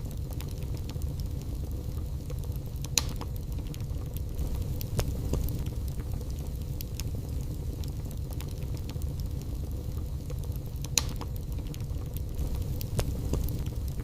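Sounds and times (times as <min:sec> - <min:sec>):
fire crackles: 0:00.0 - 0:14.0
fire low rumble: 0:00.0 - 0:14.0
sharp fire pops: 0:00.0 - 0:14.0.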